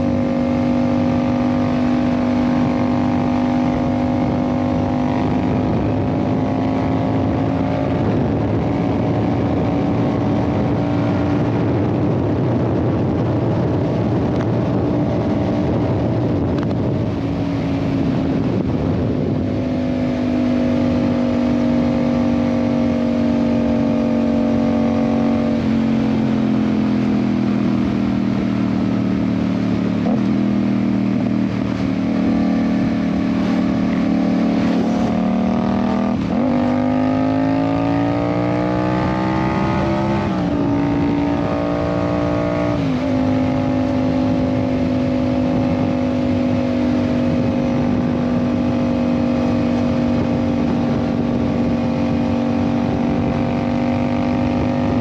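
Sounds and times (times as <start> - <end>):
motorcycle engine running: 0.0 - 55.0
wind rushing: 0.8 - 28.2, 29.3 - 55.0.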